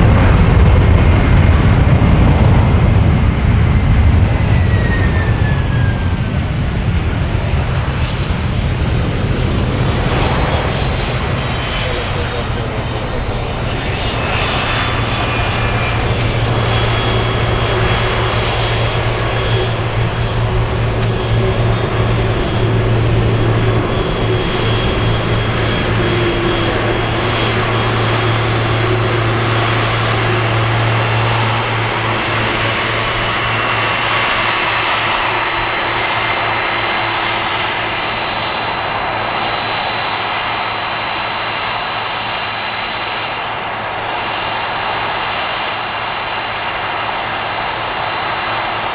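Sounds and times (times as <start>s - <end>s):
jet engines at taxi power: 0.0s - 48.9s.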